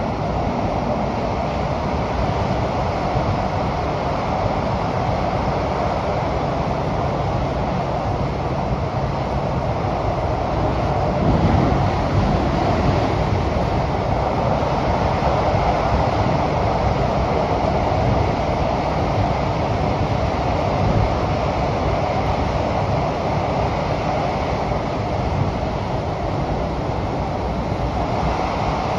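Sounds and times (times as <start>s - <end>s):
wheels roaring on rail: 0.0s - 28.9s.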